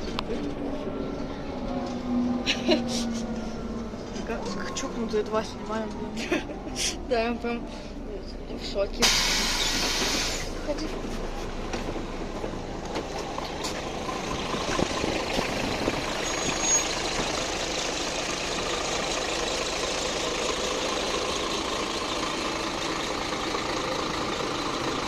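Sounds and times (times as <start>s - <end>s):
bus engine running: 0.0s - 25.0s
street traffic noise: 0.0s - 25.0s.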